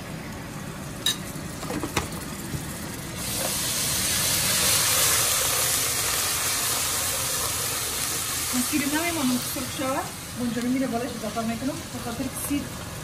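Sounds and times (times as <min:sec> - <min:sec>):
onion sizzling in hot oil: 0:00.8 - 0:13.0.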